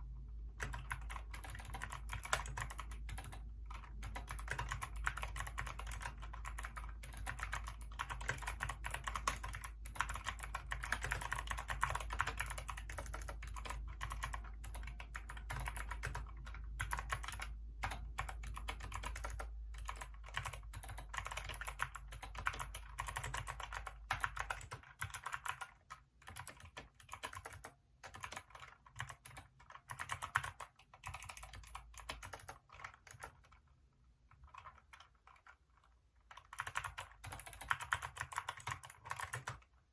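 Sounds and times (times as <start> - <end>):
mechanical keyboard typing: 0.6 - 33.7, 34.3 - 39.7.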